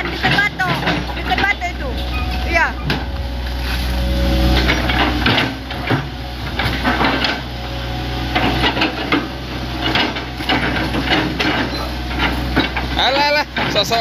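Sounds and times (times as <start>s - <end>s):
excavator running: 0.0s - 14.0s
sharp knocks and scraping clatter: 0.0s - 14.0s.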